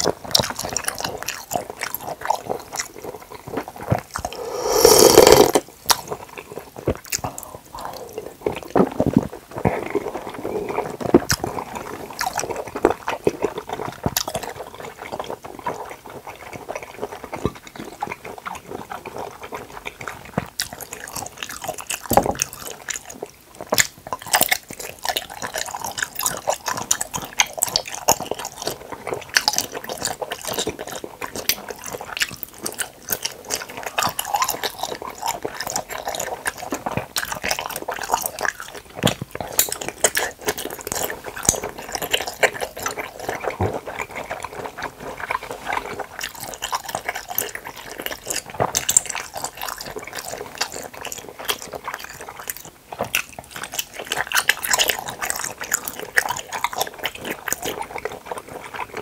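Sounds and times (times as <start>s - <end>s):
close chewing of jelly: 0.0s - 59.0s.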